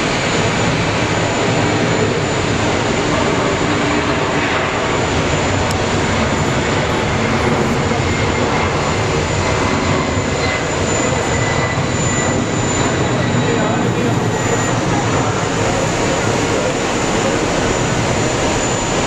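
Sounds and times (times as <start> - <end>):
faint high whine: 0.0 - 19.0
jet engines running: 0.0 - 19.0.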